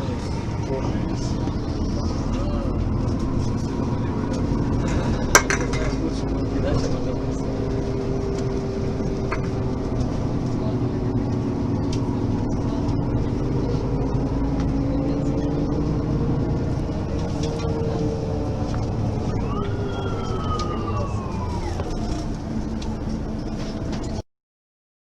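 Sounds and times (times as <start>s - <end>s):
bus engine drone: 0.0s - 24.2s.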